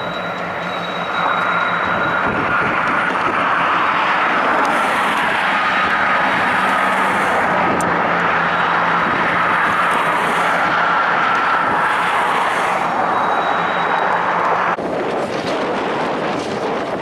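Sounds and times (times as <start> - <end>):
locomotive engine and fan rush: 0.0 - 17.0.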